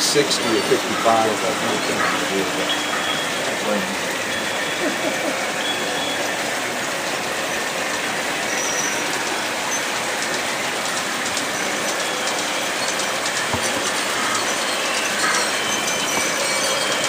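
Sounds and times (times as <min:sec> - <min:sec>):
model train rolling: 0:00.0 - 0:17.0.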